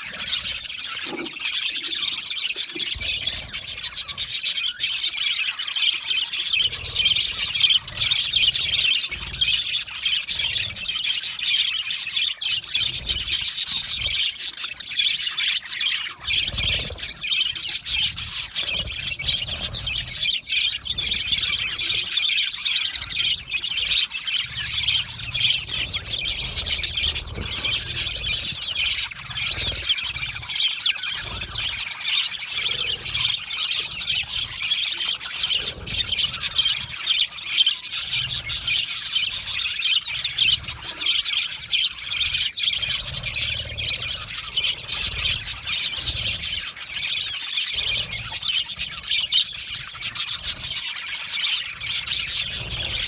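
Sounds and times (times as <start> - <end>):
budgerigars chattering and chirping: 0.0 - 53.0.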